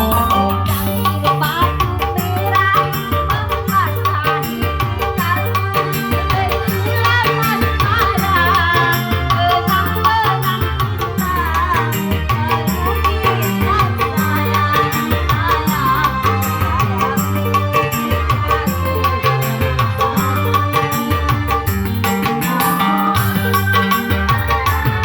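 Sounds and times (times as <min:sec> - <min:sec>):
drum and bass beat: 0:00.0 - 0:25.0.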